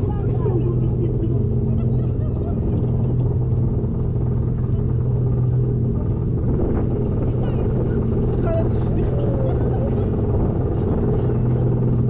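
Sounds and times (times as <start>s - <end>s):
faint voices: 0.0s - 12.0s
motor hum: 0.0s - 12.0s.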